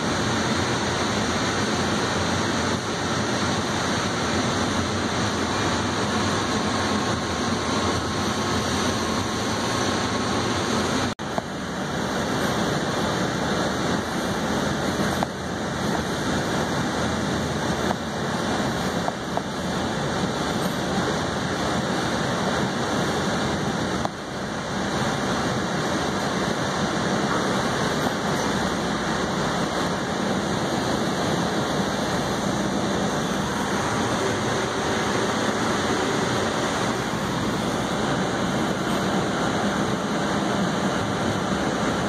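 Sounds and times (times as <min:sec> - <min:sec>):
subway train rumbling on track: 0:00.0 - 0:42.0.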